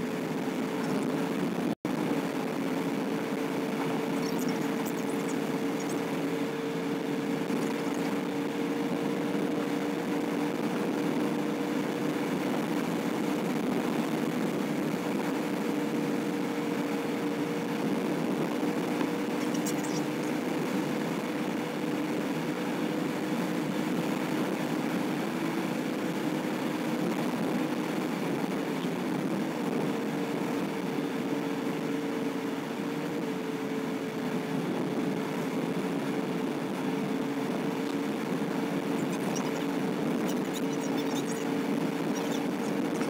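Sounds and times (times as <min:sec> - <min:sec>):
car engine hum: 0:00.0 - 0:43.0
road and tyre noise: 0:00.0 - 0:43.0.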